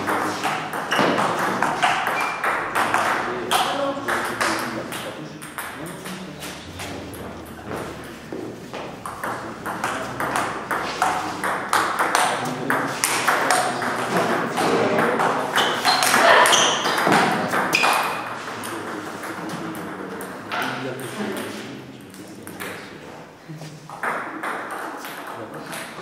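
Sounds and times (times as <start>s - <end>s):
background voices: 0.0s - 26.0s.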